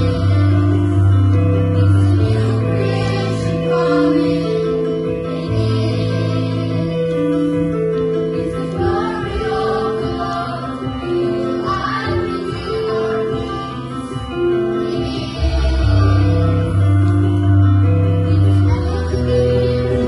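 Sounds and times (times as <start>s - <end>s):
children's choir singing: 0.0s - 17.2s, 17.9s - 20.0s
instrumental accompaniment: 0.0s - 20.0s.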